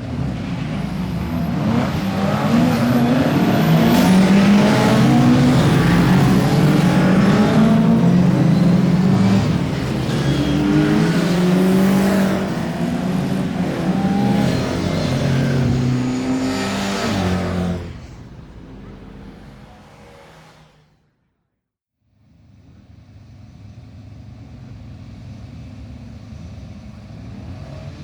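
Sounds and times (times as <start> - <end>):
racing car engines revving: 0.0 - 21.0, 24.5 - 28.0.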